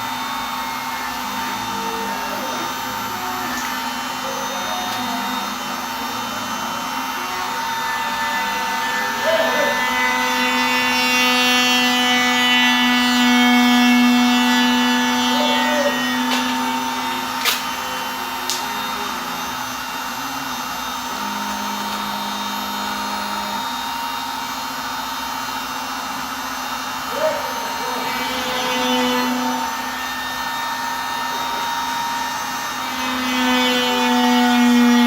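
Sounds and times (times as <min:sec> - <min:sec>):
router spindle whine and hum: 0:00.0 - 0:35.0.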